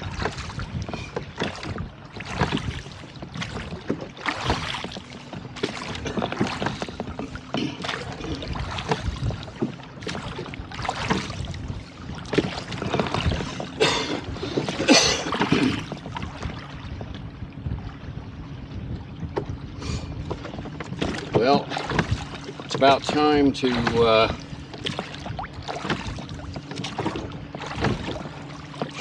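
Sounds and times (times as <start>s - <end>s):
water washing: 0.0s - 16.8s, 20.3s - 29.0s
oars splashing in water: 0.0s - 29.0s.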